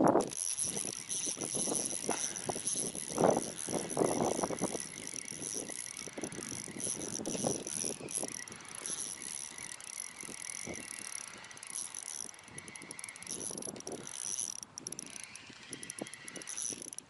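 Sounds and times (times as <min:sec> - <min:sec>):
fishing reel gears whirring: 0:00.0 - 0:17.0.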